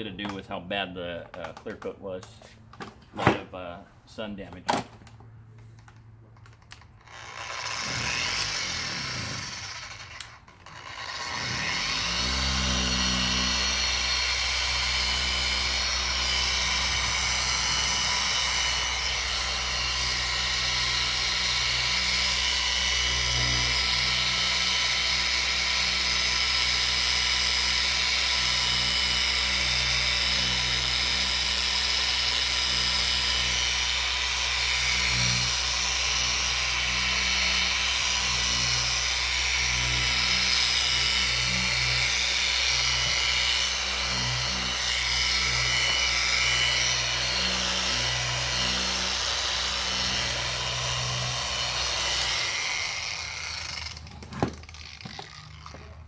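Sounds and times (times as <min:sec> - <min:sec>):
electric polisher whining: 0:06.4 - 0:56.0.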